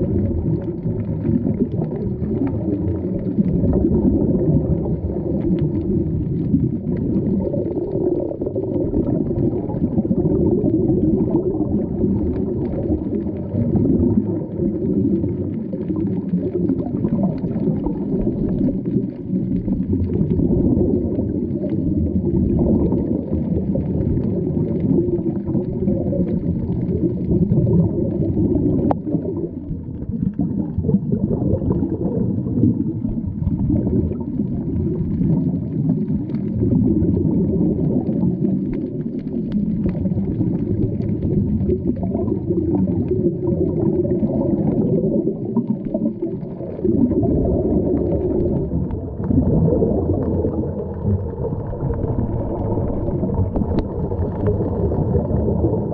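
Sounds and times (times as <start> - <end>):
underwater regulator bubbles: 0.0 - 55.9.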